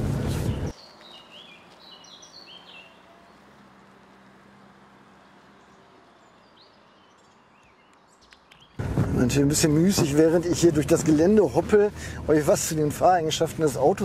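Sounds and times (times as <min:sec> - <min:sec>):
birds chirping: 0:00.2 - 0:14.0.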